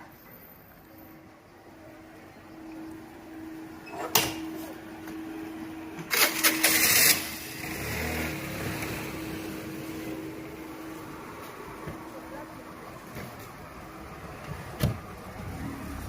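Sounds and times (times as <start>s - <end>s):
low engine rumble: 0.0s - 16.0s
street noise: 0.0s - 16.0s.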